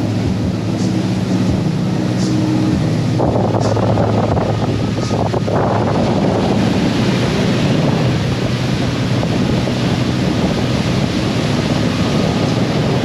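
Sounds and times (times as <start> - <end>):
boat engines droning: 0.0 - 13.0
water rushing past hull: 0.0 - 13.0
wind buffeting microphone: 0.0 - 13.0.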